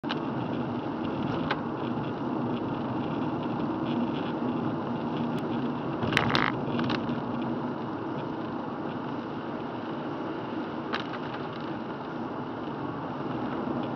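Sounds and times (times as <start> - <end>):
car road noise on wet road: 0.0 - 13.9.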